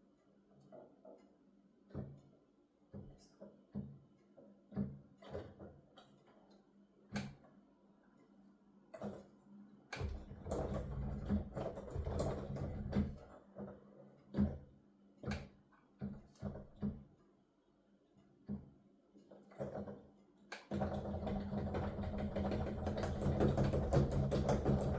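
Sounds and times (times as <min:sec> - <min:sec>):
faint electrical hum: 0:00.0 - 0:24.9.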